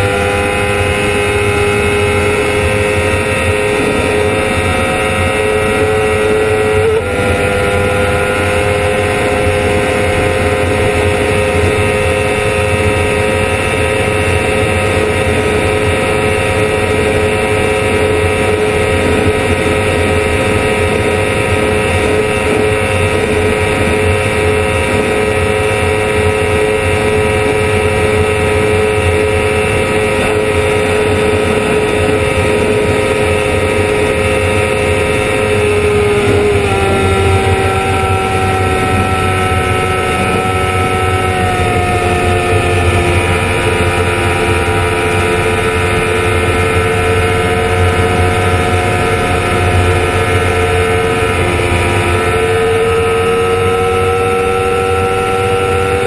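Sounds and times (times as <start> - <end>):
motorcycle engine at high speed: 0.0 - 56.0
wind rush: 1.3 - 54.0.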